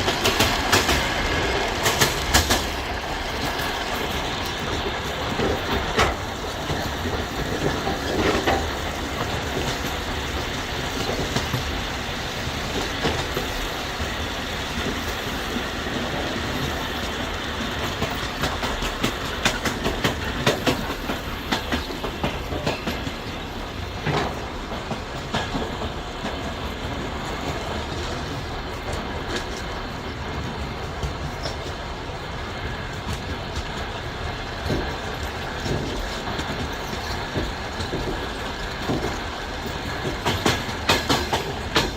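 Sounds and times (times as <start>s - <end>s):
train running rumble: 0.0s - 41.9s
train wheels clacking: 0.0s - 41.9s.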